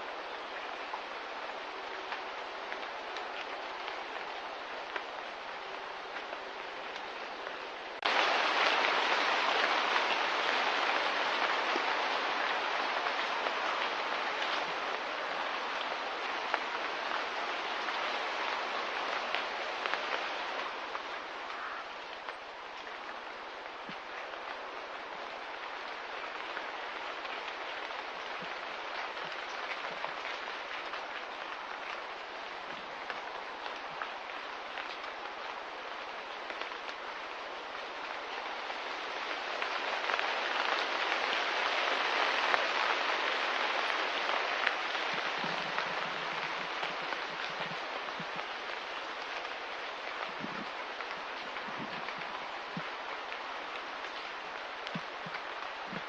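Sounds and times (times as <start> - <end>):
light rain falling: 0.0 - 56.0.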